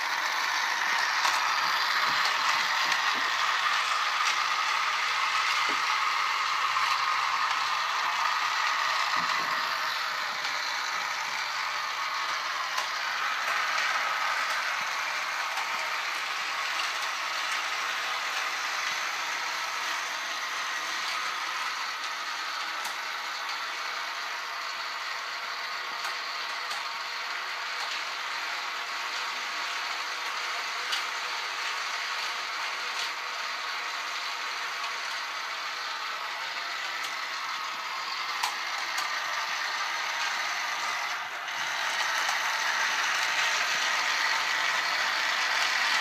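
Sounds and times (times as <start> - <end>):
toy motor whirring and clattering: 0.0 - 46.0.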